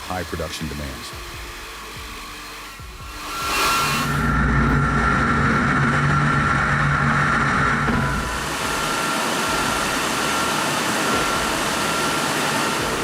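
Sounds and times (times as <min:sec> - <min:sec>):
heavy machinery whining: 0:00.0 - 0:13.0.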